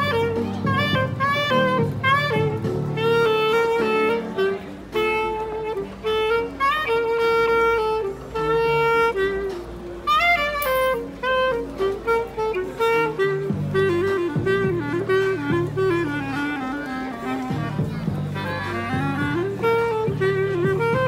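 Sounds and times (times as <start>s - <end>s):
instrumental background music: 0.0s - 21.0s.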